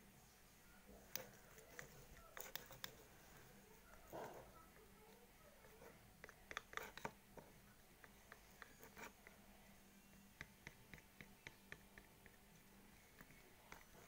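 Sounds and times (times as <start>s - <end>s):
plastic spoon stirring slime: 0.8s - 14.0s.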